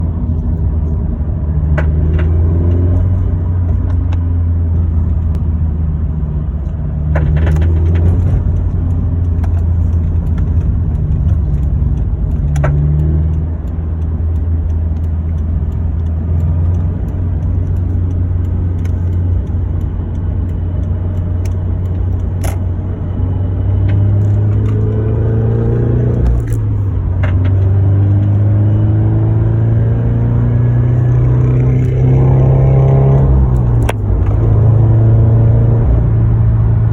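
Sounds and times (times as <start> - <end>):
car engine droning: 0.0 - 36.9.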